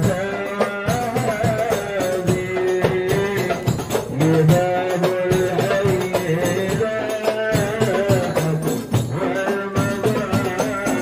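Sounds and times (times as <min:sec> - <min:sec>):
frame drums: 0:00.0 - 0:11.0
voices singing: 0:00.0 - 0:11.0.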